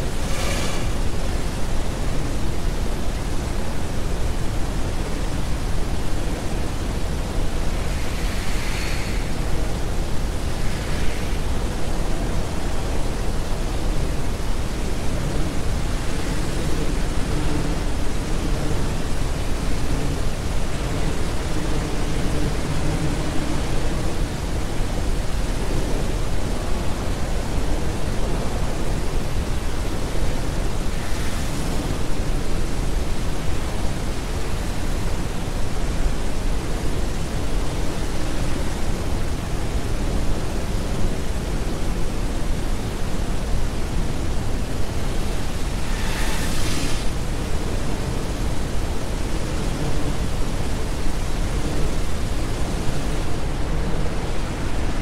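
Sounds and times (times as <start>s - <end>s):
dense static noise: 0.0s - 55.0s.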